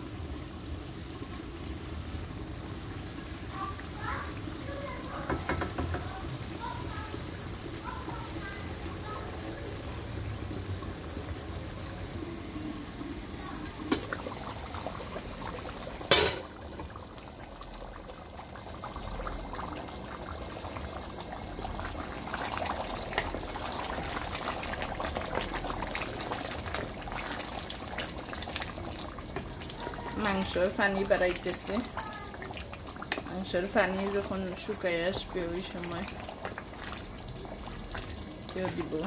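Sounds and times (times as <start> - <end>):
curry boiling in a pot: 0.0 - 39.0.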